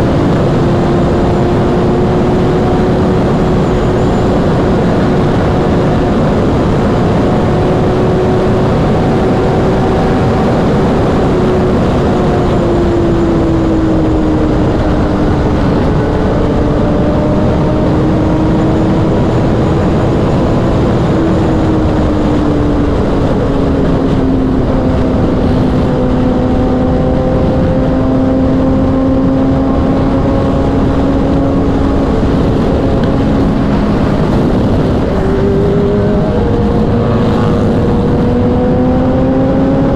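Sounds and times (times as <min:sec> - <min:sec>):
heavy wind noise: 0:00.0 - 0:39.9
motorcycle engine at speed: 0:00.0 - 0:39.9.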